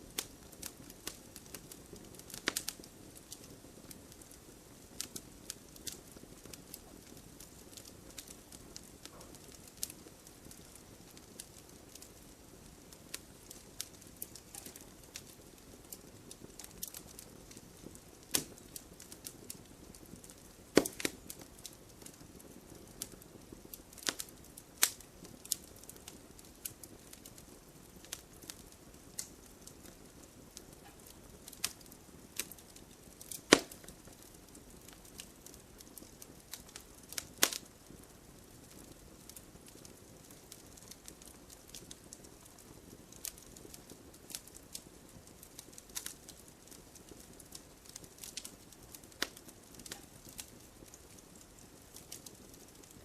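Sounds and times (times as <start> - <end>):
wood fire crackling: 0.0 - 53.0
sharp fire pops: 0.1 - 53.0.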